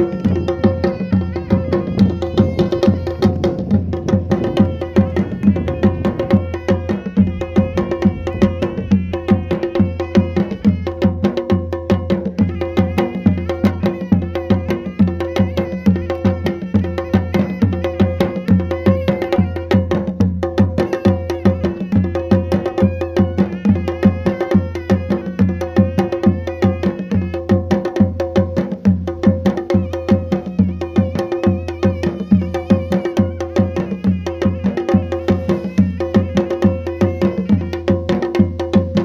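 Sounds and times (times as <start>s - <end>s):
background music with fast percussion beat: 0.0s - 39.0s.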